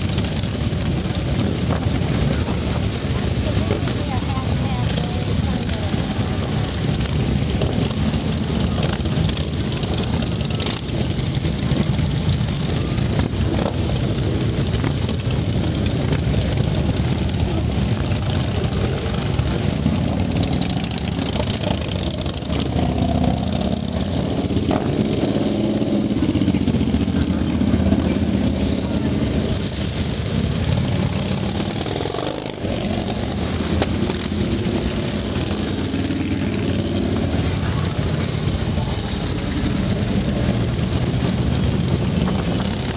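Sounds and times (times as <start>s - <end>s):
vehicle engines rumbling: 0.0s - 42.9s.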